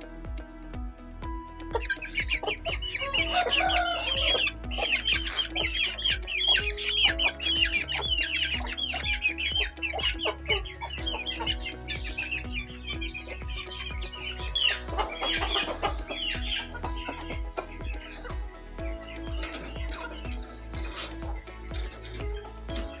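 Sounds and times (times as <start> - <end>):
background music with steady beat: 0.0 - 23.0
high falling chirps: 1.8 - 23.0
chickens clucking: 2.1 - 23.0.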